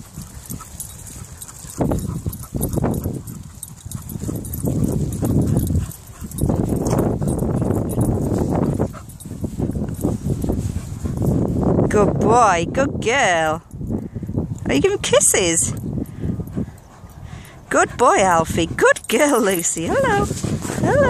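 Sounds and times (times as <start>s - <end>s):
dogs playing on grass: 0.0s - 12.2s, 13.6s - 21.0s.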